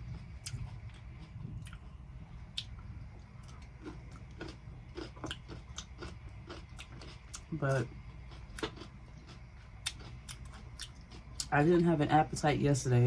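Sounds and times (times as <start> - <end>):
crunchy chewing: 0.0 - 12.1.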